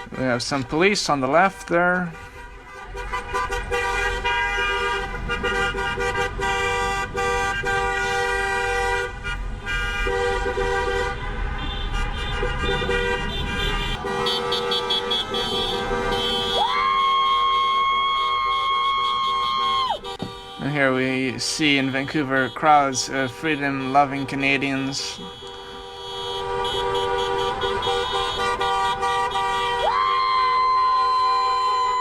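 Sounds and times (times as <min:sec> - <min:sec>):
vehicle horns honking: 0:00.0 - 0:17.0, 0:18.1 - 0:32.0.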